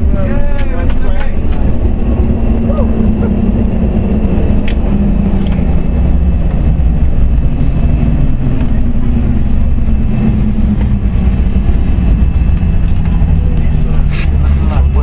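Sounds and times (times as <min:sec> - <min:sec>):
jet cabin engine roar: 0:00.0 - 0:15.0.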